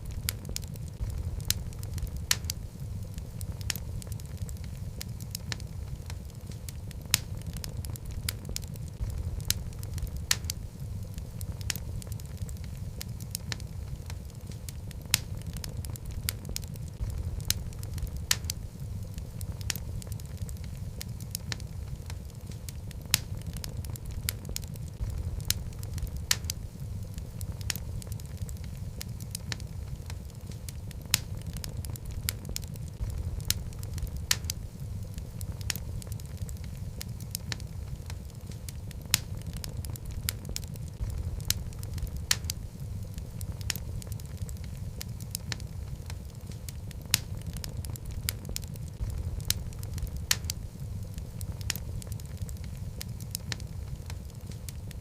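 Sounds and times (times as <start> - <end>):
logs crackling and popping: 0.0 - 55.0
low rumble of flame: 0.0 - 55.0.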